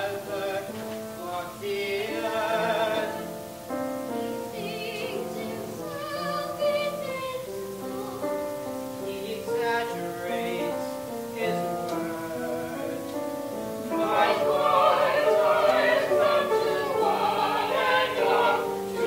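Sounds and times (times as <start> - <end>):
instrumental accompaniment: 0.0 - 19.0
opera singing with vibrato: 0.0 - 19.0.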